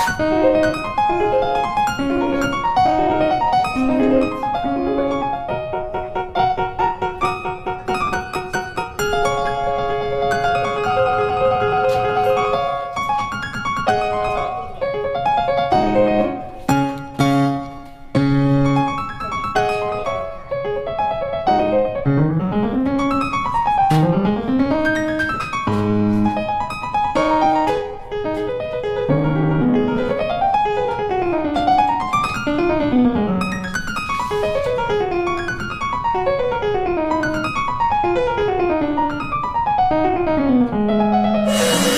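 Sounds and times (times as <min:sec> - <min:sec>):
piano music: 0:00.0 - 0:41.9.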